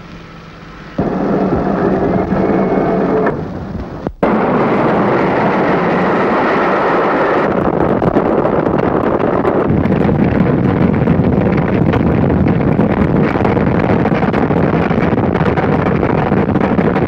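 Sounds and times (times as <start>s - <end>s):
steam train rumble and clatter: 1.0s - 17.0s.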